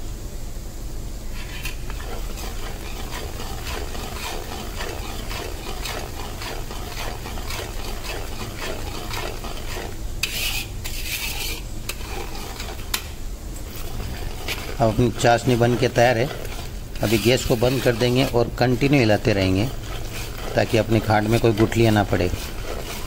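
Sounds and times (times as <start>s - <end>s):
boiling syrup hissing: 1.0s - 23.0s
metal spatula scraping in pan: 1.4s - 13.1s, 13.7s - 23.0s.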